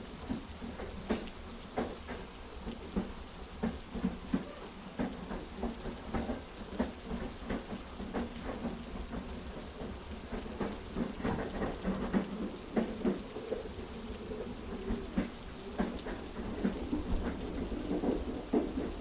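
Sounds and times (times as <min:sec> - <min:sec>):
heavy rain falling: 0:00.0 - 0:19.0
train knocks: 0:00.1 - 0:19.0.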